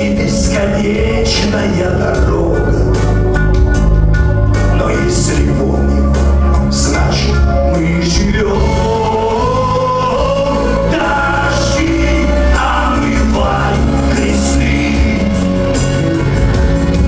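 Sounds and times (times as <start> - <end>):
man singing: 0.0 - 3.4, 4.6 - 17.0
live band playing: 0.0 - 17.0.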